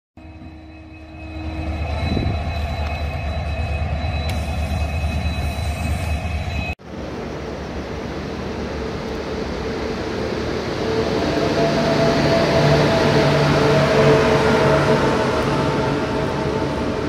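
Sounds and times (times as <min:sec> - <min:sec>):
diesel locomotive engine hum: 0:00.2 - 0:17.0
electric locomotive rumble: 0:00.2 - 0:17.0
thin high whine: 0:00.2 - 0:17.0.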